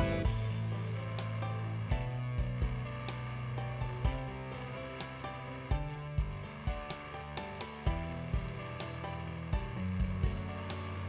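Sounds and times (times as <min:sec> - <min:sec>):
drum beat: 0:00.0 - 0:11.0
held bass note: 0:00.0 - 0:11.0
sustained pitched notes: 0:00.0 - 0:11.0.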